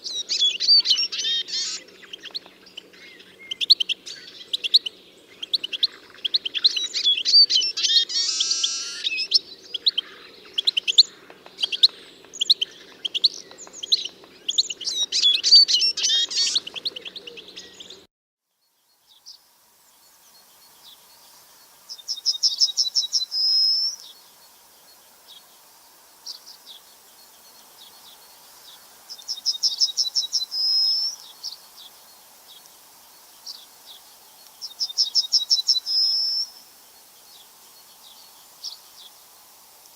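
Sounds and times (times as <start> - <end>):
bird song with trill and whistle: 0.0 - 19.4, 20.0 - 25.5, 26.2 - 39.2
songbirds chirping: 0.0 - 39.9.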